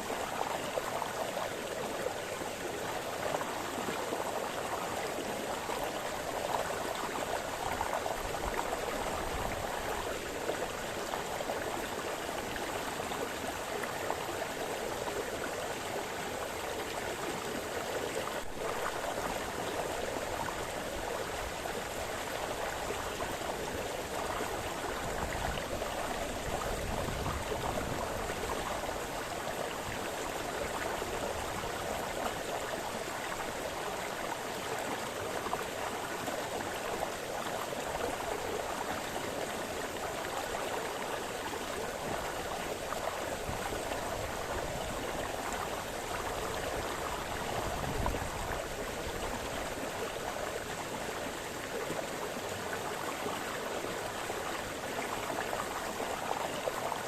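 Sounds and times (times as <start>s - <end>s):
brook babbling over stones: 0.0s - 57.0s.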